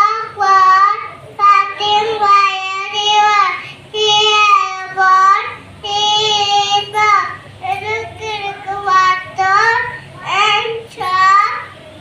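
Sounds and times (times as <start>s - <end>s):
child singing: 0.0s - 11.7s.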